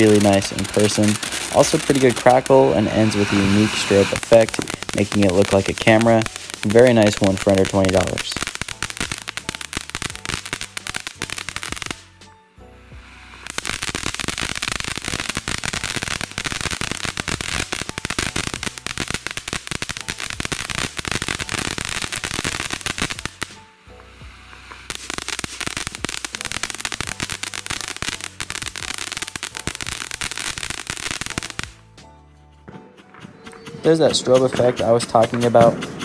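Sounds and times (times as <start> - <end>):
fountain firework crackling: 0.0 - 12.0, 13.0 - 23.6, 24.4 - 31.8, 33.7 - 36.0.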